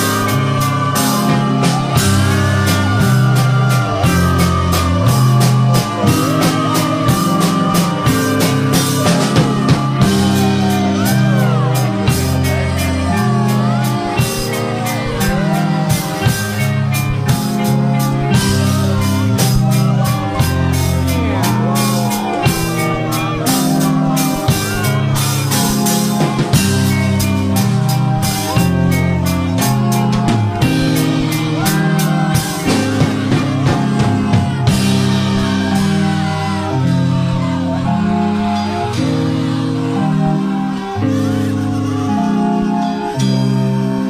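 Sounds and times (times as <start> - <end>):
drums with cymbal hits: 0.0 - 37.5
bass guitar: 0.0 - 44.0
distorted guitars: 0.0 - 44.0.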